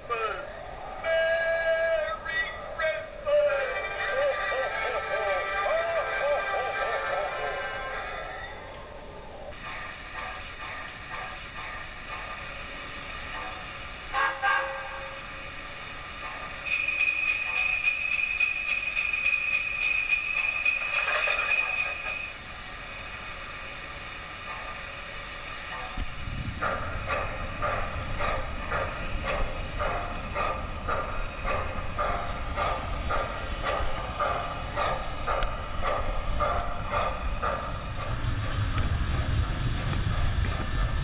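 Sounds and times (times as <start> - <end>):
model steam locomotive chuffing: 0.0 - 41.0
train rolling on track: 0.0 - 41.0.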